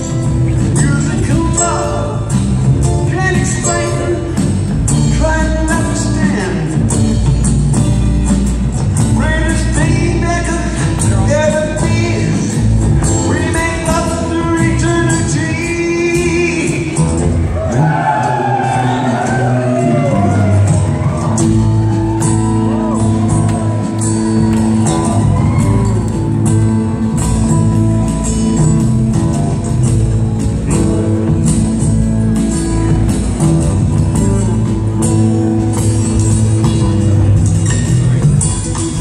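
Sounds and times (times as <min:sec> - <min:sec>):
drum kit beat: 0:00.0 - 0:39.0
electric guitar: 0:00.0 - 0:39.0
upright bass: 0:00.0 - 0:39.0.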